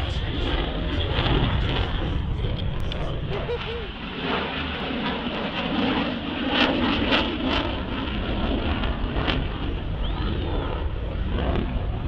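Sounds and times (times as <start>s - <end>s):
jet engines roaring: 0.0s - 12.0s
wind gusts on microphone: 0.0s - 12.0s.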